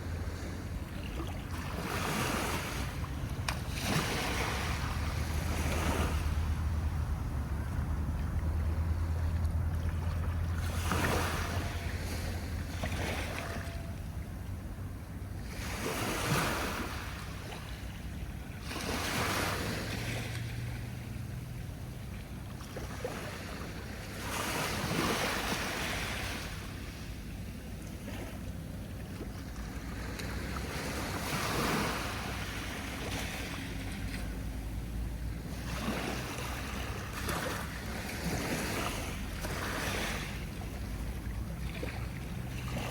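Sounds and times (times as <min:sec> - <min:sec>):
sea waves breaking on shore: 0:00.0 - 0:42.9
wind rumble on microphone: 0:00.0 - 0:42.9.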